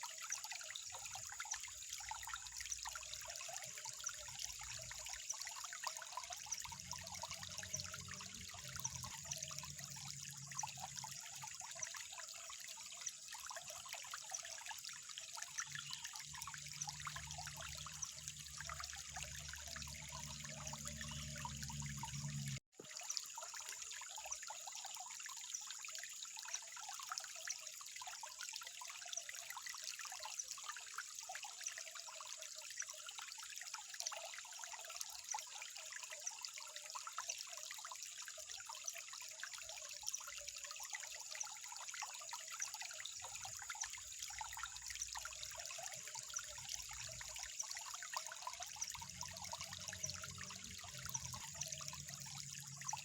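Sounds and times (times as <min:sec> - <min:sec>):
water trickling and splashing: 0:00.0 - 0:53.0.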